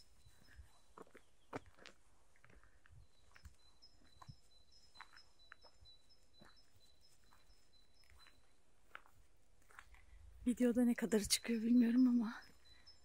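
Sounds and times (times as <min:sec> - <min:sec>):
faint high birdsong: 0:00.0 - 0:01.9, 0:02.5 - 0:09.3, 0:10.1 - 0:13.0
soft footsteps on ground: 0:00.0 - 0:12.7.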